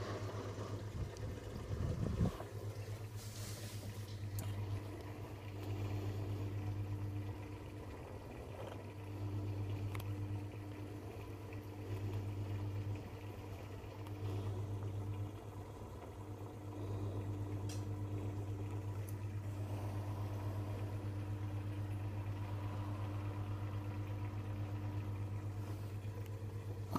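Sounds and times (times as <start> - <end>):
aquarium filter pump hum: 0.0 - 26.9
faint water movement: 0.0 - 26.9.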